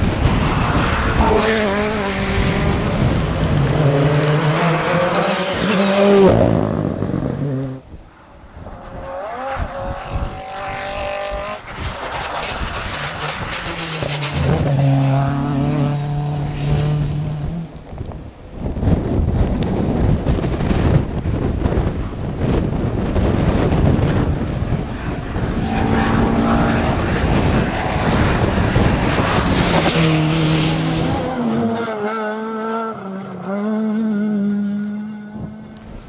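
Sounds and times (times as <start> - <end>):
rally car engines at full throttle: 0.0 - 36.0.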